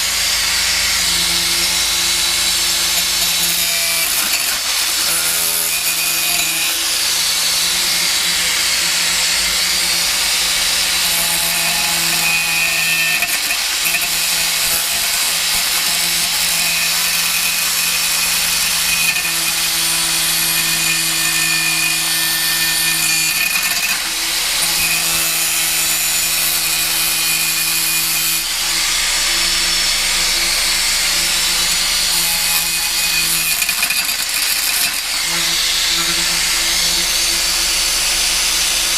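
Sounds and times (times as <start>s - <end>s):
angle grinder cutting steel pipe: 0.0s - 38.9s.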